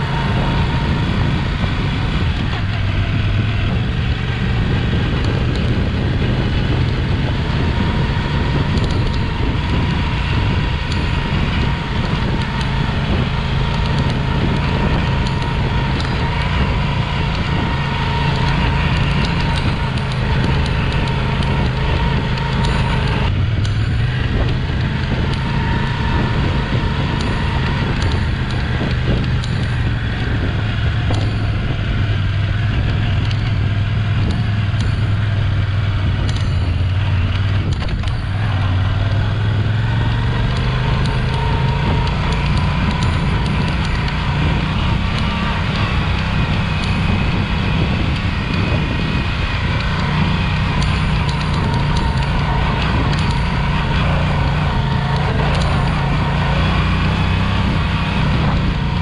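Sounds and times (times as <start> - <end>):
motorcycle engine running: 0.0 - 59.0
tyre and wind noise: 0.0 - 59.0.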